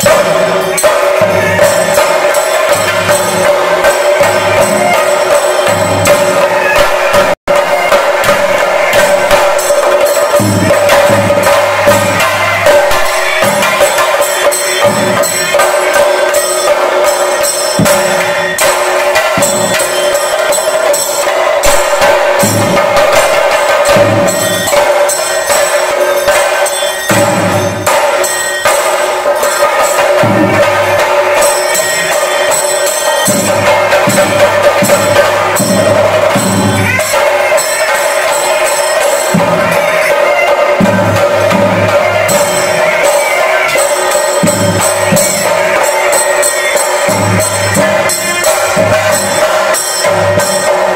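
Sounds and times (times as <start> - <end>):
drums beaten with sticks: 0.0 - 50.9.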